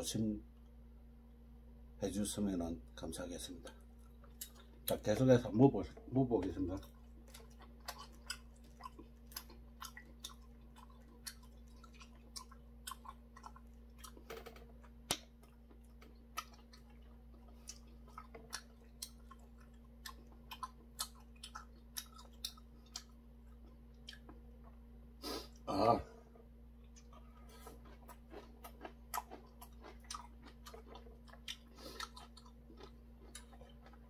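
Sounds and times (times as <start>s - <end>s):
person chewing food: 3.6s - 5.2s, 5.8s - 25.7s, 26.8s - 34.0s.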